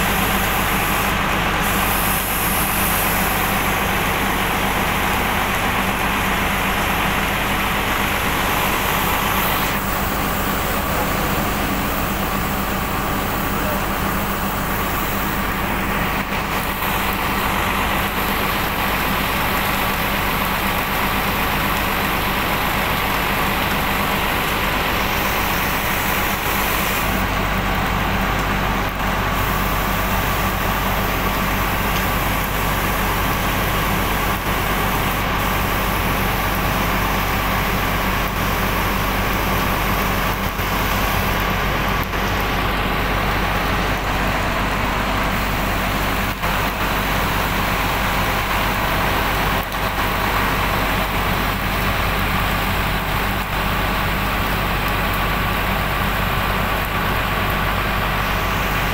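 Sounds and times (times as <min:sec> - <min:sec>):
machine humming: 0:00.0 - 0:58.9.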